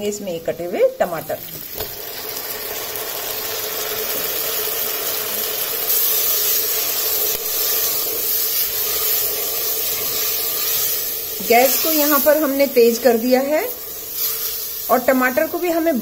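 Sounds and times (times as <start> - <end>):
tomatoes sizzling in hot oil: 0.0 - 16.0.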